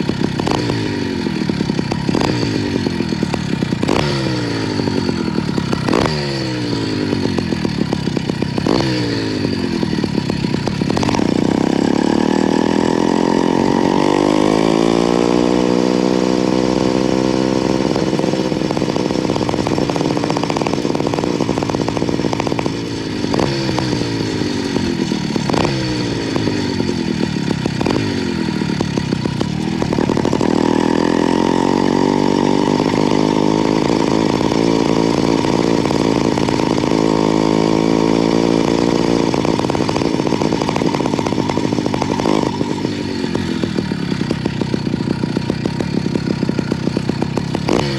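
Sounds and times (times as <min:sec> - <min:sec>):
small two-stroke engine running: 0:00.0 - 0:47.9.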